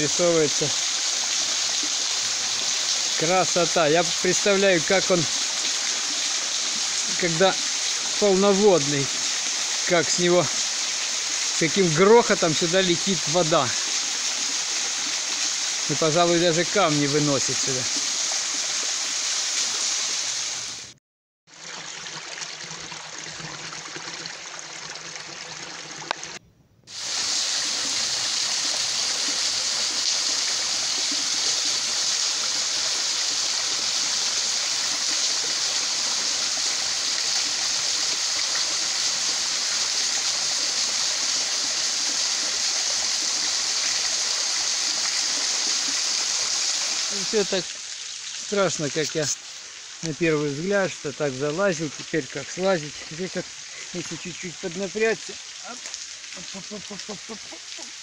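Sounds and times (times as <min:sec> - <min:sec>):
waterfall splashing onto stones: 0:00.0 - 0:20.9, 0:21.5 - 0:58.0.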